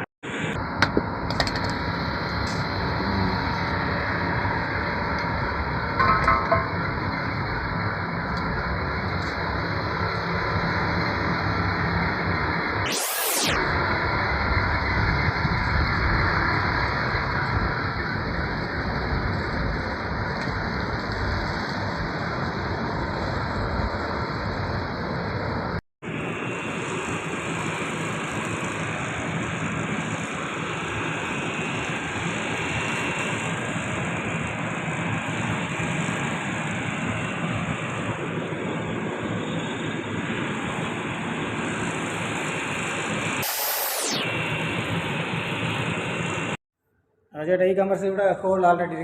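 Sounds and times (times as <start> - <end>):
machinery humming with rushing hiss: 0.0 - 46.6.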